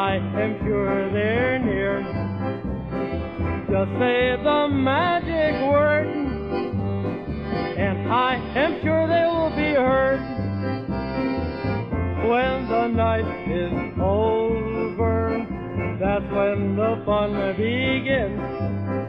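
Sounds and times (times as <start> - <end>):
polka band music: 0.0 - 19.0.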